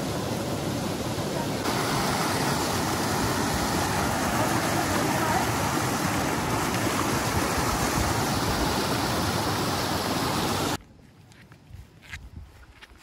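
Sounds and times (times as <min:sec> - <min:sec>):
water rushing over rocks: 0:00.0 - 0:10.8.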